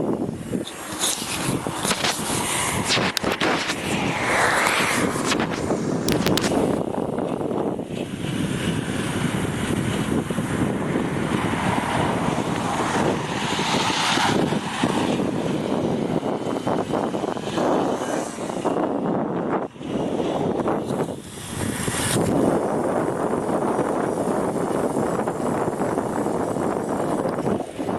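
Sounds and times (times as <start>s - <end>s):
e-bike riding noise: 0.0s - 27.9s
wind on microphone: 0.0s - 27.9s.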